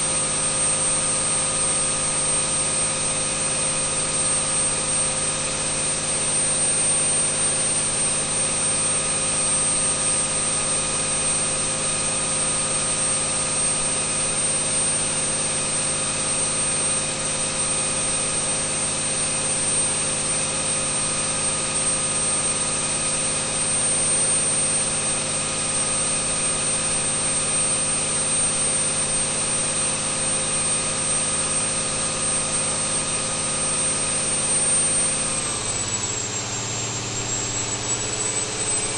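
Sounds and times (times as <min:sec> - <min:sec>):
diesel engine running steadily: 0:00.0 - 0:38.9
high-pitched whine: 0:00.0 - 0:38.9.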